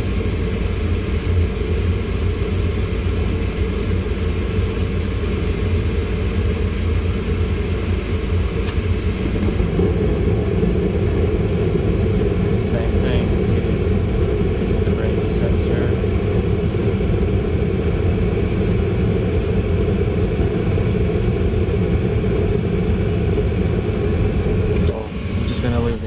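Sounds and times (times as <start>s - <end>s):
gas furnace running: 0.0s - 26.0s.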